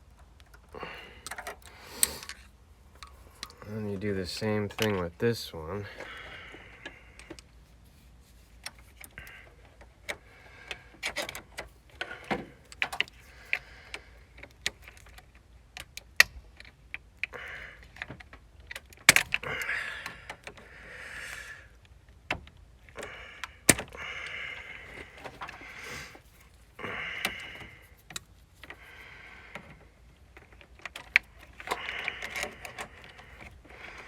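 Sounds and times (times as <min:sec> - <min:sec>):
hand tools clicking and scraping metal: 0:00.0 - 0:21.4, 0:22.8 - 0:34.0.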